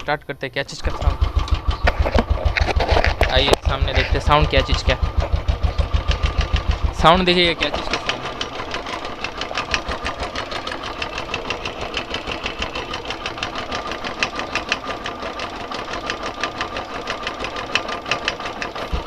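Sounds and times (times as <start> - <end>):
motorcycle engine idling with ticking: 0.8 - 19.0.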